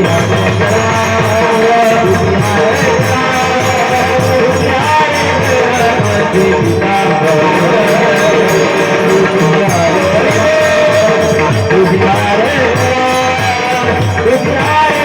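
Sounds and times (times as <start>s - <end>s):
jingling percussion: 0.0s - 15.0s
wavering melody: 0.0s - 15.0s.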